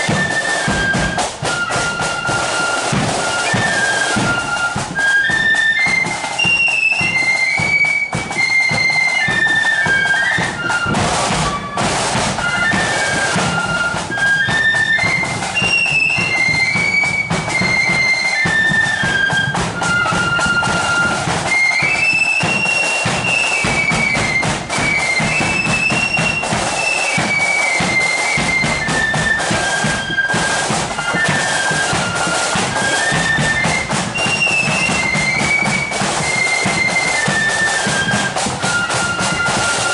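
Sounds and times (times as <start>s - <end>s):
drums beating time: 0.0s - 39.9s
shrill flutes playing a tune: 0.0s - 39.9s.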